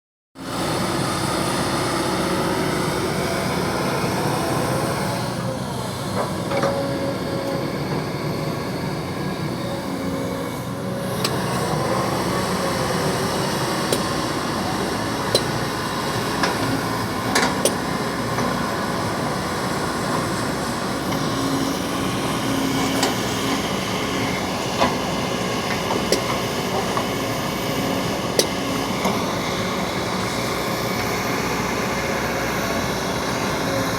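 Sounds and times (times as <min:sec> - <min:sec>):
excavator diesel engine running: 0:00.4 - 0:33.9.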